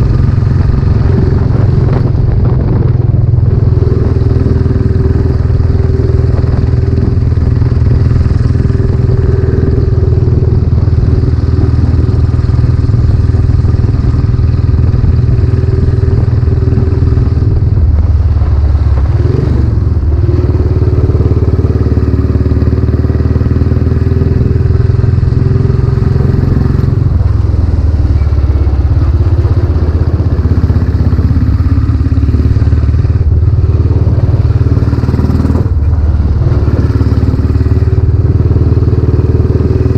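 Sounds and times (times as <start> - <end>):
motorcycle engine low exhaust note: 0.0 - 39.9.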